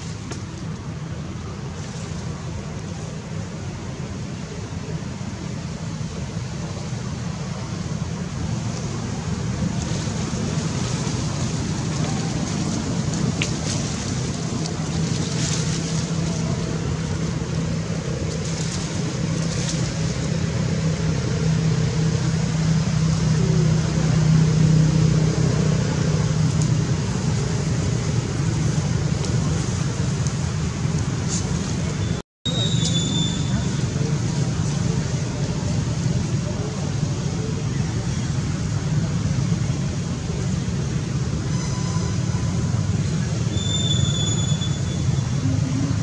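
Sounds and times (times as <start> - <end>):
low engine hum: 0.0 - 46.0.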